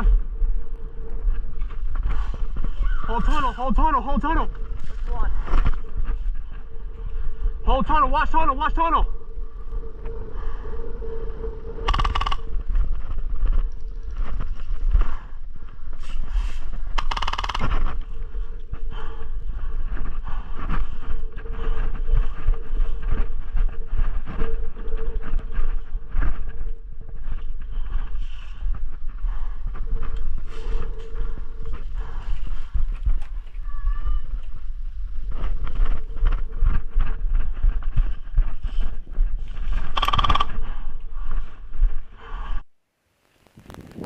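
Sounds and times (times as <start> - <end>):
wind buffeting microphone: 0.0 - 42.7, 43.5 - 44.0.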